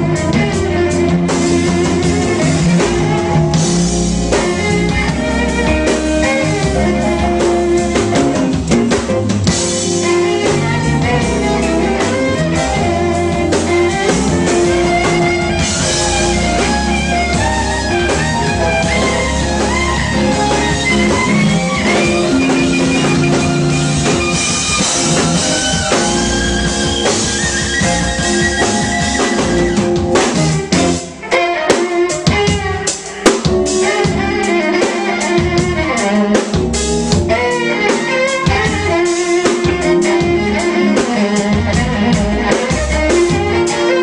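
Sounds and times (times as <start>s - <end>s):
drum hits: 0.0s - 31.2s, 32.1s - 43.6s
band playing r and b jam: 0.0s - 44.0s.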